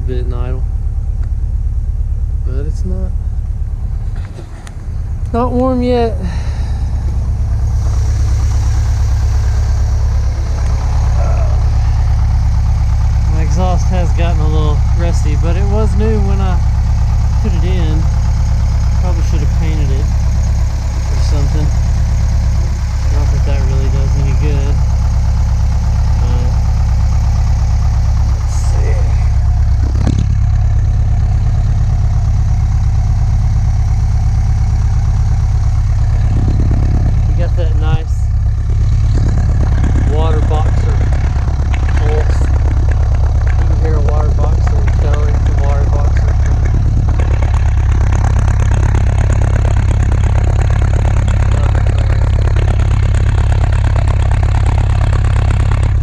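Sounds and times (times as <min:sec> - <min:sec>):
van engine idling: 0:00.0 - 0:56.0.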